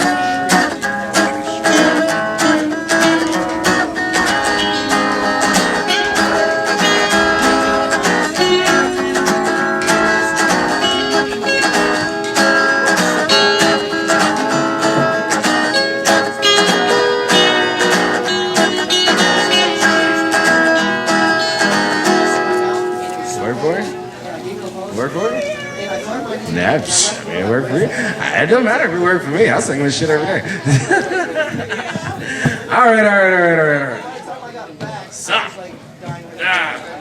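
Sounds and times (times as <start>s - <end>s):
acoustic guitar picking and strumming: 0.0s - 34.2s.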